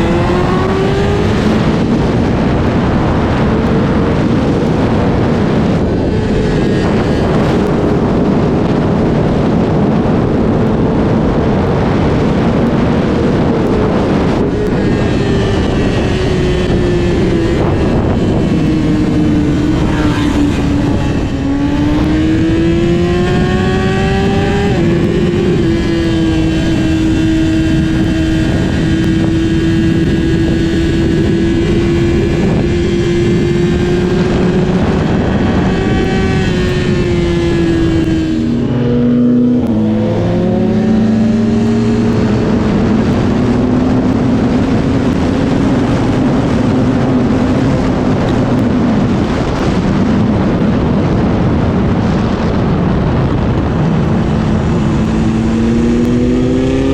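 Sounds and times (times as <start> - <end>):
motorcycle engine running: 0.0 - 56.9
rush of riding noise: 0.0 - 56.9.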